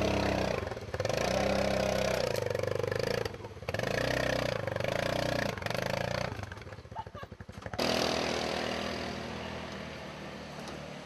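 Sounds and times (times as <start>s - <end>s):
utility vehicle engine under load: 0.0s - 11.0s.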